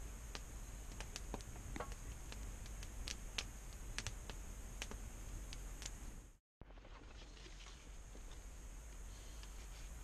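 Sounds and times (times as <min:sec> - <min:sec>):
campfire crackling: 0:00.0 - 0:10.0
faint steady background noise: 0:00.0 - 0:10.0.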